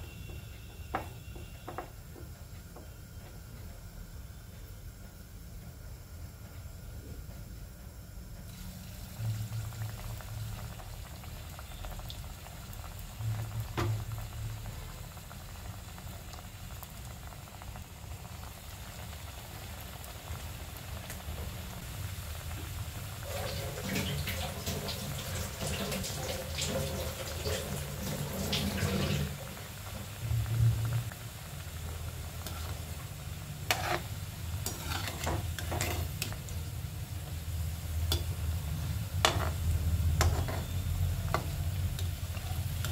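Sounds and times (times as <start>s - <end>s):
steady low hum: 0.0s - 23.2s, 29.3s - 42.9s
dough frying in hot oil: 7.9s - 42.9s.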